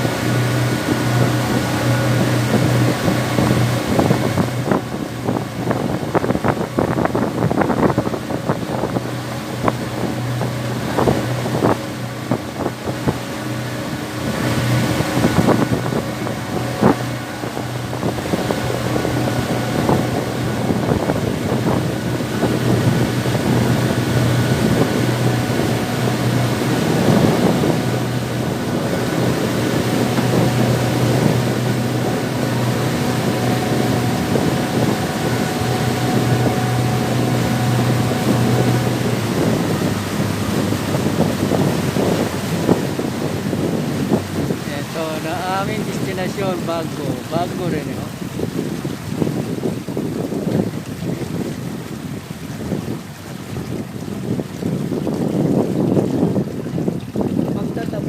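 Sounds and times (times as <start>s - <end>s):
boat engine running: 0.0s - 58.0s
wind on microphone: 0.0s - 58.0s.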